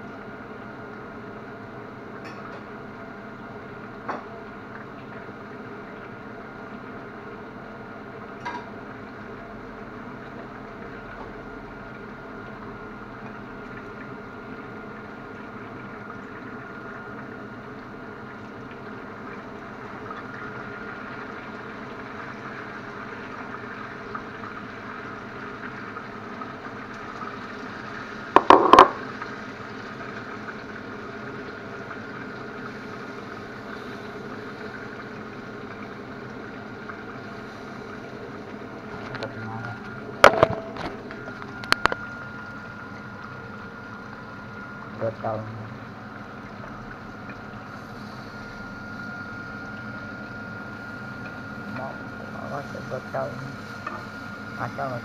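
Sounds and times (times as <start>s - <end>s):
chicken sizzling in a pan: 0.0s - 40.2s, 46.7s - 55.0s.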